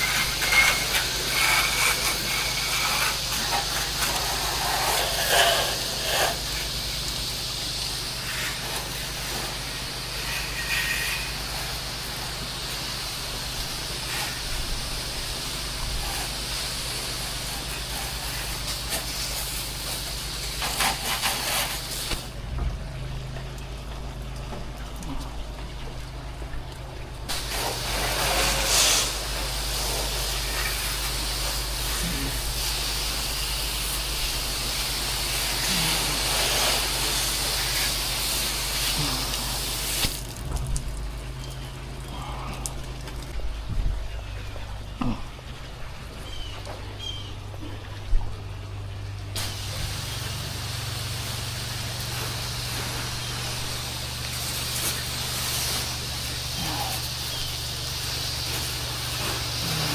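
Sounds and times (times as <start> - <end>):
engine hum: 0.0 - 59.9
water spraying hiss: 0.0 - 59.9.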